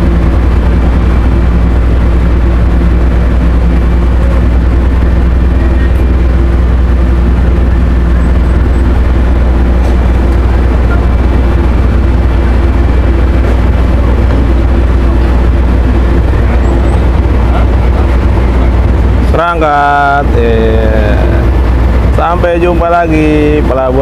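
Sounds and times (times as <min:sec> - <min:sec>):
constant hum: 0:00.0 - 0:24.0
ship engines droning: 0:00.0 - 0:24.0.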